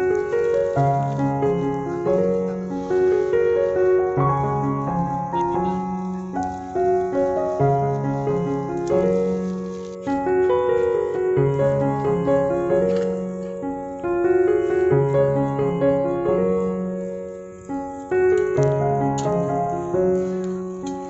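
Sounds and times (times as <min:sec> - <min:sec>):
gentle piano tune: 0:00.0 - 0:21.0.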